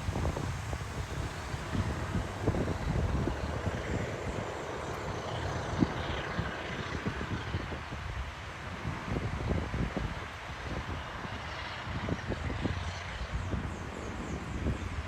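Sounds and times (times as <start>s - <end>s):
passing vehicle rumble: 0.0s - 15.0s
wind buffeting microphone: 0.0s - 15.0s.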